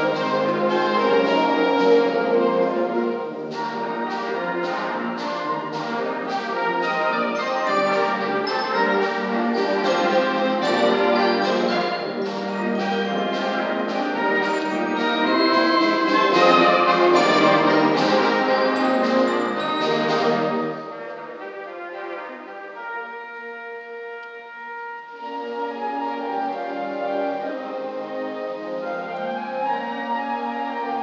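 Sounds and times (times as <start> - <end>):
concert band playing slow piece: 0.0 - 31.0.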